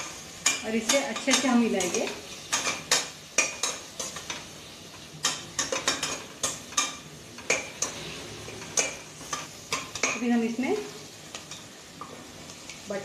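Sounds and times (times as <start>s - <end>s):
faint sizzle of frying: 0.0s - 13.0s.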